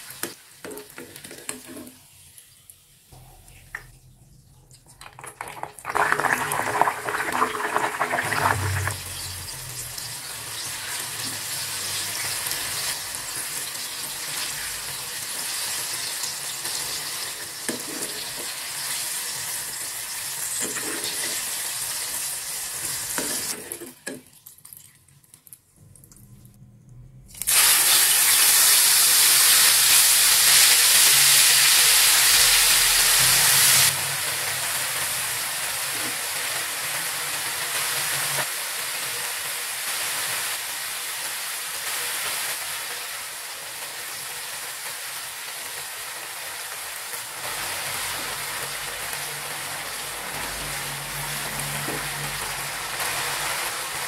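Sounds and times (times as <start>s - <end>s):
vegetables sizzling in hot oil: 0.0s - 3.1s, 8.6s - 24.1s, 27.4s - 54.0s
chili paste frying in a wok: 0.0s - 3.2s, 8.6s - 24.2s, 27.4s - 54.0s.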